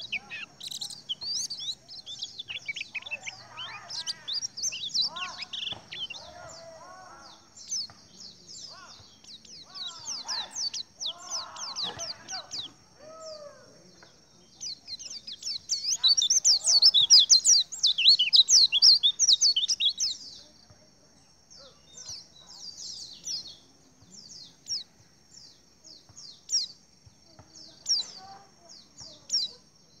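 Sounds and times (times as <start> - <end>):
birds twittering: 0.0 - 30.0.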